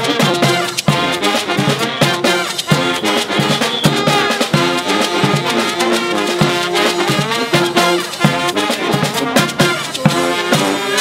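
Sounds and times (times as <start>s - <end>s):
brass band playing upbeat tune: 0.0s - 11.0s
steady drum beat: 0.0s - 11.0s.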